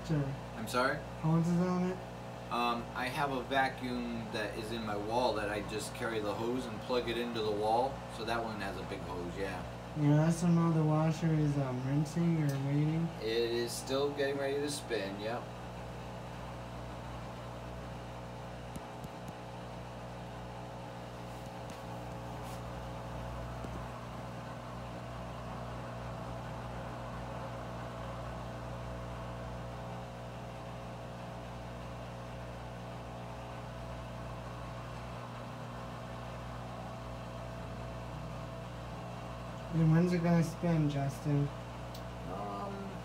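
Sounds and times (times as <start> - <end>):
washing machine hum: 0.0 - 43.0.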